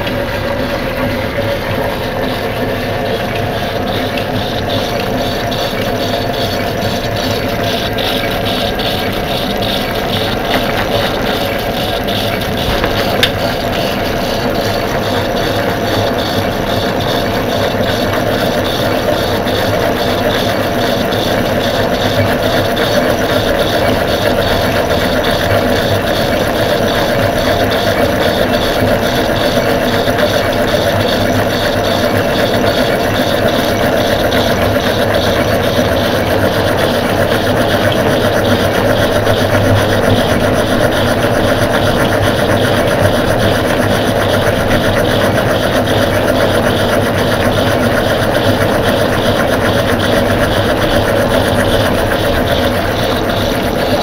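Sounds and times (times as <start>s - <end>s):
lathe mechanical whir: 0.0s - 54.0s.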